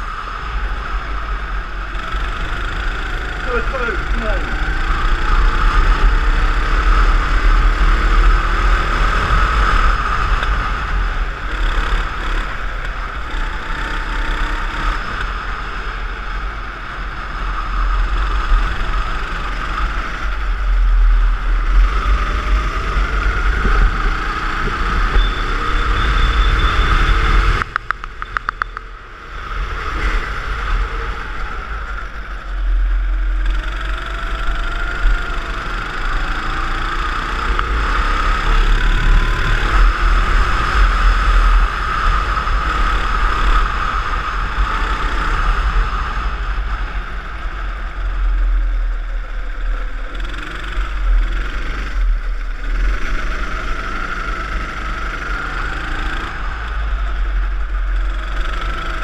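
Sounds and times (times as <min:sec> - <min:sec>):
go-kart engine at speed: 0:00.0 - 0:59.0.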